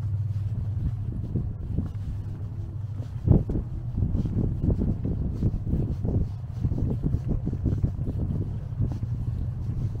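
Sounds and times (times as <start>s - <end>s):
faint engine hum: 0.0s - 10.0s
wind buffeting microphone: 0.0s - 10.0s.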